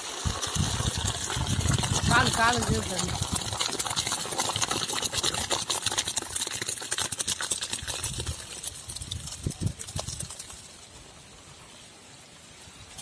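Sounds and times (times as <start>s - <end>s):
water and rice pouring into colander: 0.0s - 10.6s.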